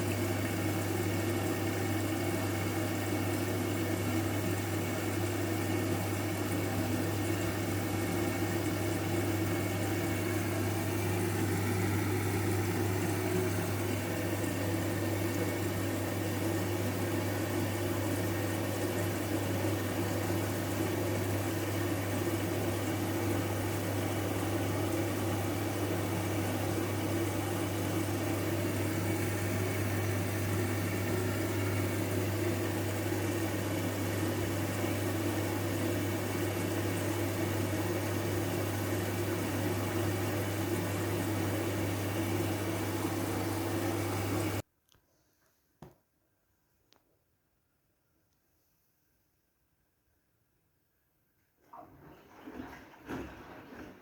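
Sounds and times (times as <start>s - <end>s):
washing machine humming: 0.0s - 44.7s, 51.6s - 54.0s.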